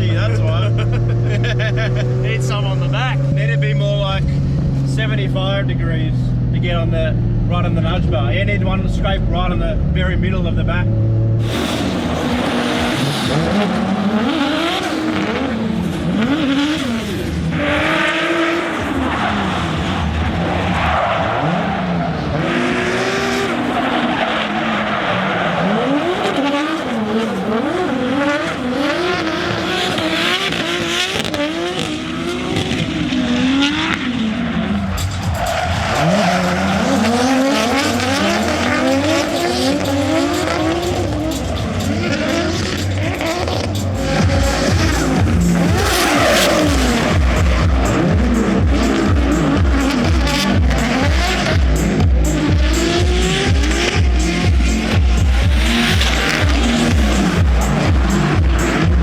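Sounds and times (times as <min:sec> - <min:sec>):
car engines revving hard: 0:00.0 - 0:59.0
tyres squealing and skidding: 0:11.4 - 0:59.0.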